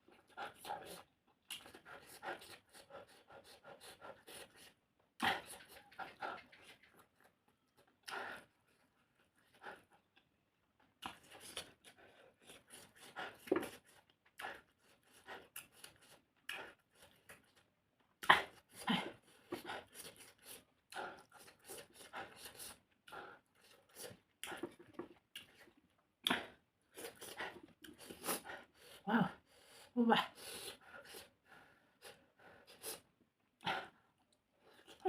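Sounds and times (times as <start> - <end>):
chewing and lip smacking: 0.1 - 28.9.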